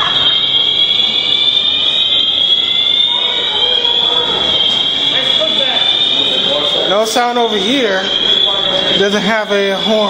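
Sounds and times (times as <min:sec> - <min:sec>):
fire alarm high-pitched tone: 0:00.0 - 0:10.0.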